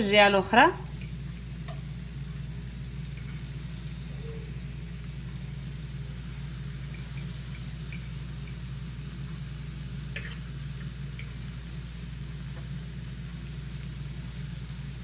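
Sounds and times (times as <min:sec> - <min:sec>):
dough sizzling in hot oil: 0:00.0 - 0:15.0
steady low hum: 0:00.0 - 0:15.0.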